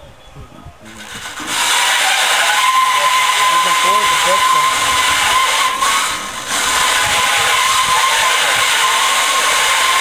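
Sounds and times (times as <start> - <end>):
drill grinding rusty steel: 0.9 - 10.0.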